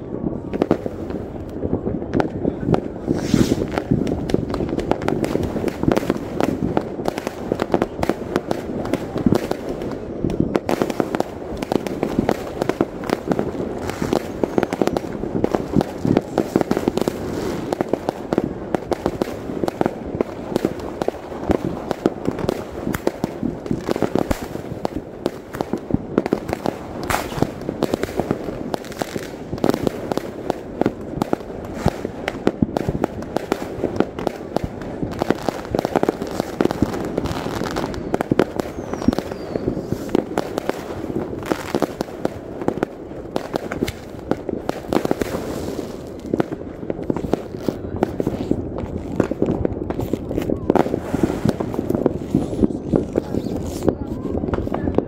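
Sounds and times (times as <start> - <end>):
fireworks and firecrackers banging: 0.0 - 55.0.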